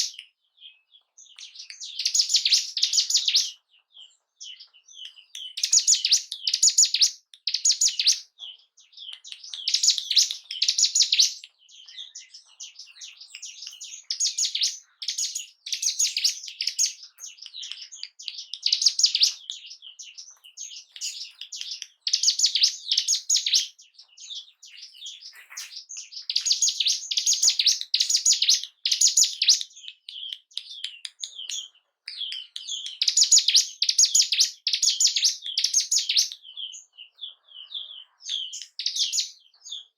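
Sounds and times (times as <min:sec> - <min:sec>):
bird singing high-pitched phrases: 0:00.0 - 0:39.9.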